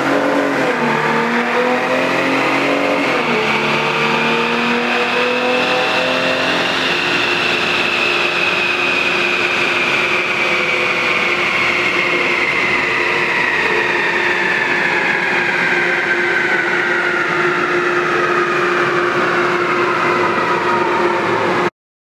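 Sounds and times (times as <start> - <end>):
whine of spinning wheels and rollers: 0.0 - 21.7.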